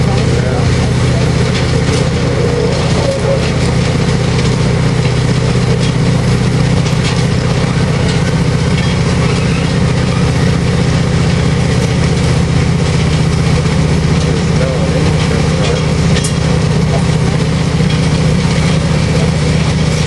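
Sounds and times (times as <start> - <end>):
train engine idling: 0.0 - 20.0.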